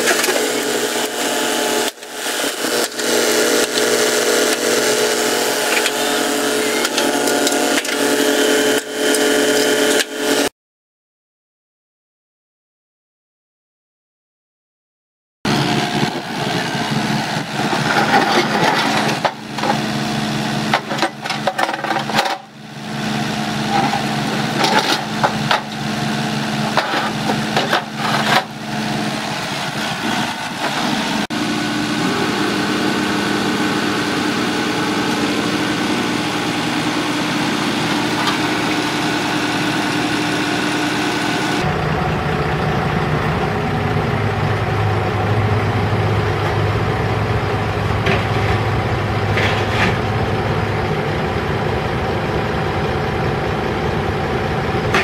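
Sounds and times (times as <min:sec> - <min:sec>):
diesel engine idling: 0:00.0 - 0:10.5, 0:15.5 - 0:55.0.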